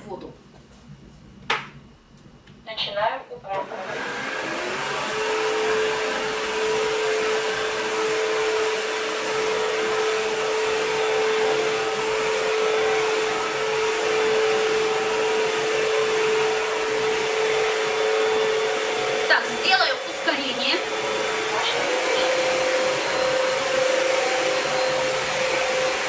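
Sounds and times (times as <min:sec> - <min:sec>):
vacuum motor whine: 0:03.4 - 0:26.0.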